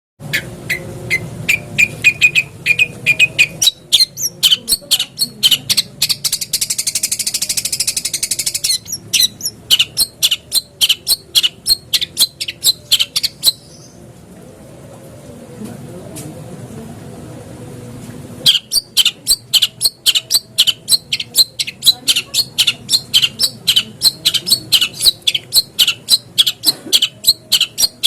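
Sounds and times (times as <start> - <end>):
shrike singing: 0.2 - 14.1, 18.4 - 28.0.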